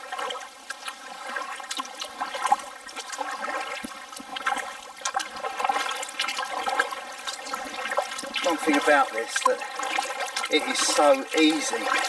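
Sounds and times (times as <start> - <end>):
paddle splashing water: 0.0 - 12.0.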